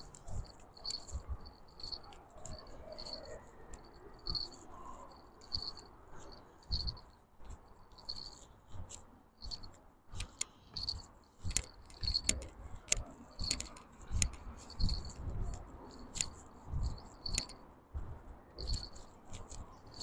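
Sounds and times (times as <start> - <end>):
fishing rod clicks and rattles: 0.0 - 4.7, 5.3 - 17.7, 18.6 - 20.0.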